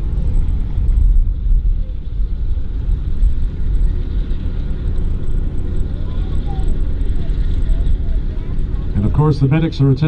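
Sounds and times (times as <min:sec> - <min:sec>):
armored vehicle engines rumbling: 0:00.0 - 0:10.0.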